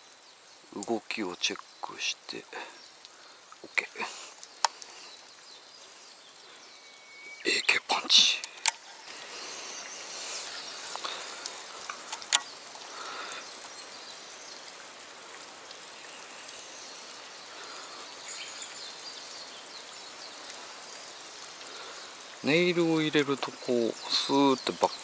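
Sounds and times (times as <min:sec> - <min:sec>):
insects: 0:00.0 - 0:25.0
outdoor background noise by water: 0:00.0 - 0:25.0.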